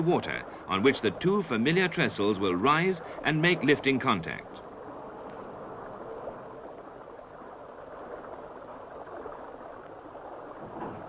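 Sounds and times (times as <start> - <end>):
river water washing: 0.0 - 11.0.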